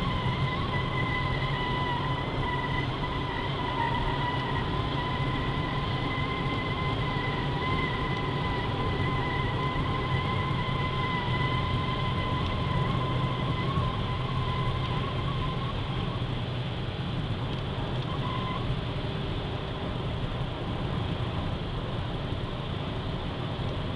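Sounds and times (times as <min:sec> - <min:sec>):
car road and engine noise: 0:00.0 - 0:23.9.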